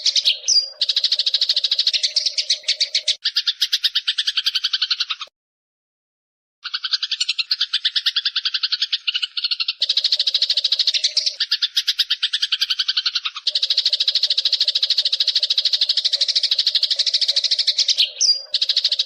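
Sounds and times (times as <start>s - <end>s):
sparrow chattering call: 0.0s - 5.3s, 6.6s - 19.0s.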